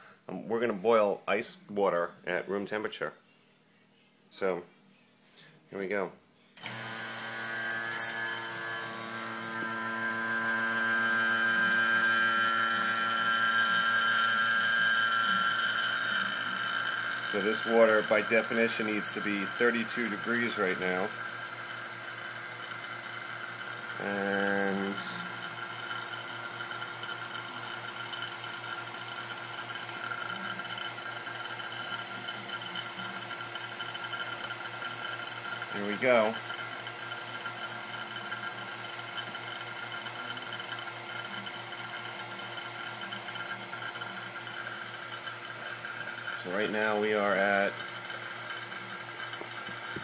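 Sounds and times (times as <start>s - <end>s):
vacuum pump running: 6.6s - 50.0s.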